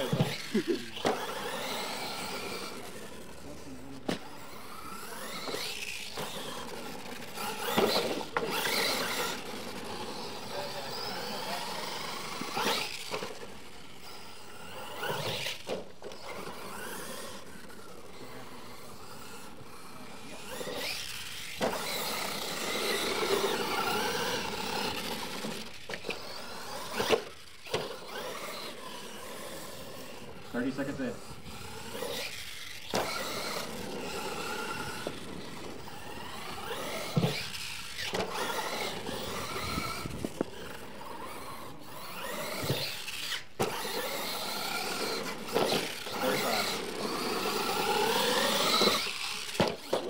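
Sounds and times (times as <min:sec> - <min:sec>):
toy truck motor whining: 0:00.0 - 0:50.0.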